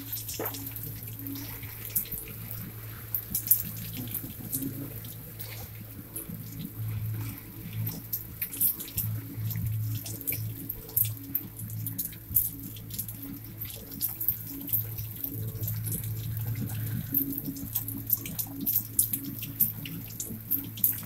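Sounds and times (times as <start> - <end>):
rain and hail on window: 0.0 - 21.0
steady low hum: 0.0 - 21.0.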